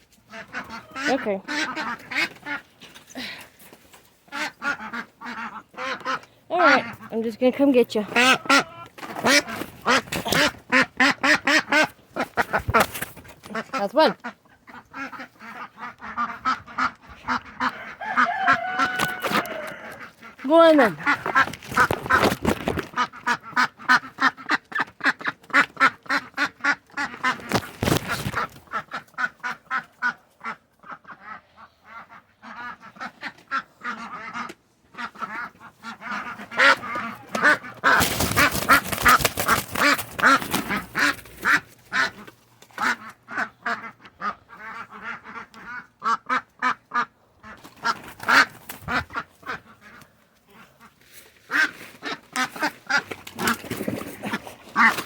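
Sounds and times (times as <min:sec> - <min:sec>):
ducks quacking: 0:00.0 - 0:03.4, 0:04.2 - 0:55.0.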